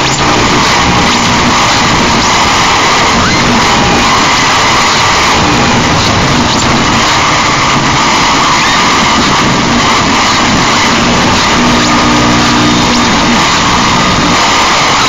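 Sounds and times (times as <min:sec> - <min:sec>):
harsh noise music: 0:00.0 - 0:15.0.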